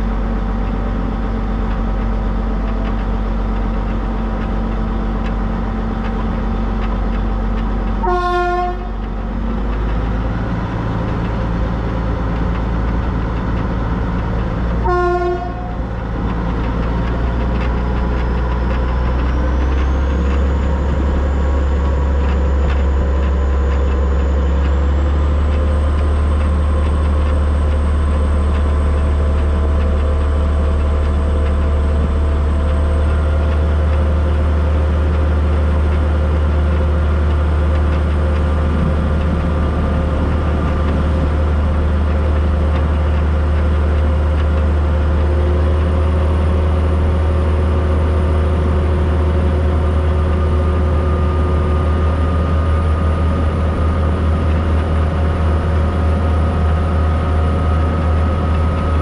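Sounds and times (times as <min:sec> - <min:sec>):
steam locomotive rumbling: 0:00.0 - 0:59.0.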